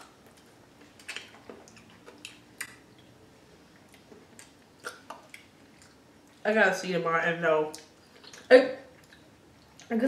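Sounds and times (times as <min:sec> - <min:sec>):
people chewing grapes: 0:00.0 - 0:06.5, 0:07.7 - 0:10.0.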